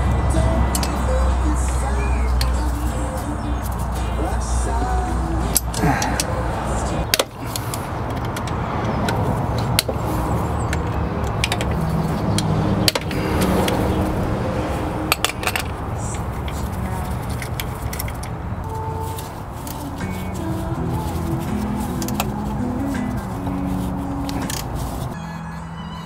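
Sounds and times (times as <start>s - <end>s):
hand tools clicking on metal: 0.7s - 4.3s, 5.5s - 14.2s, 15.0s - 25.2s.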